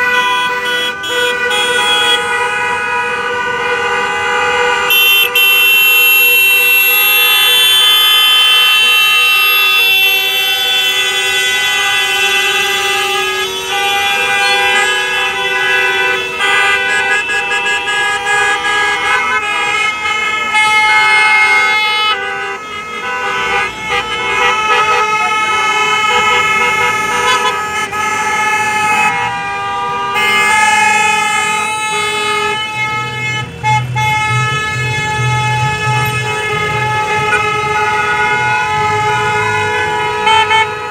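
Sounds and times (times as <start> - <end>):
car engines and tyres: 0.0 - 40.9
car horns honking: 0.0 - 40.9.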